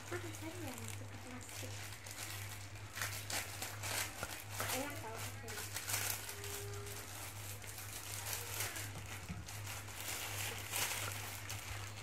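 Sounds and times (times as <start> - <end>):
plastic bags rustling and crinkling: 0.0 - 12.0
steady low hum: 0.0 - 12.0.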